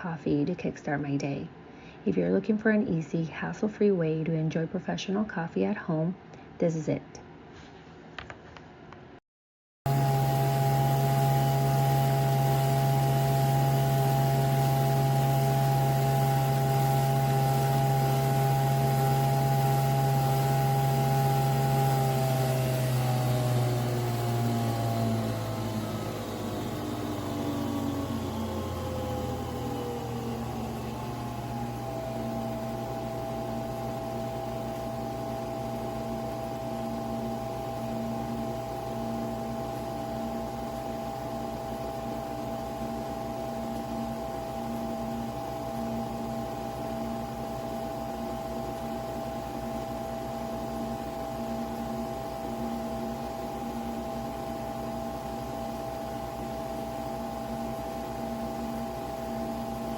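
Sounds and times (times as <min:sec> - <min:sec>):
coffee machine humming and whining: 0:09.9 - 0:59.9.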